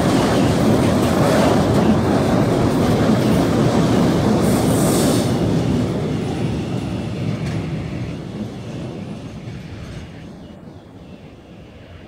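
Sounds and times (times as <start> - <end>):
freight train wheels clattering: 0.0 - 10.3.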